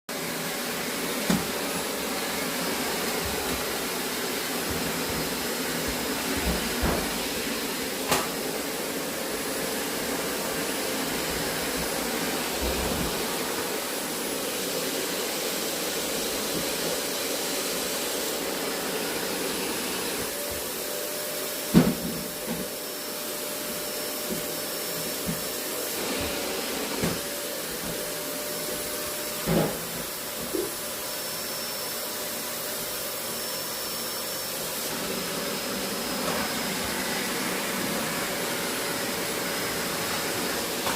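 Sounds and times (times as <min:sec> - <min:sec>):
vacuum cleaner running: 0:00.1 - 0:40.9.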